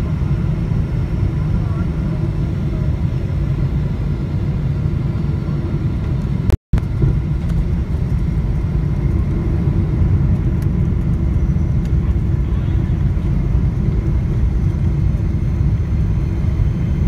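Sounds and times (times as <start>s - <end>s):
airplane cabin rumble on runway: 0.0s - 17.0s.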